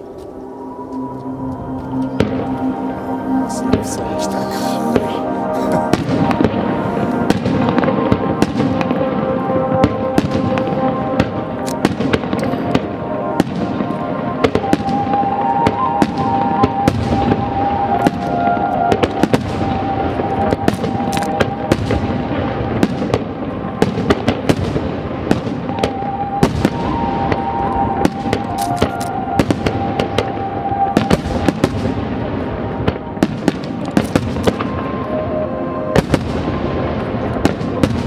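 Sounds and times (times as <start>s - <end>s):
music with long held notes: 0.0s - 38.0s
fireworks bursts and crackling: 3.5s - 38.0s.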